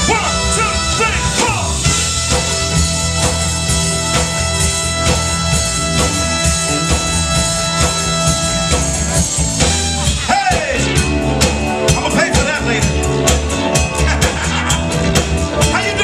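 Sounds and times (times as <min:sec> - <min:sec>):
drums beating: 0:00.0 - 0:16.0
soul band playing: 0:00.0 - 0:16.0.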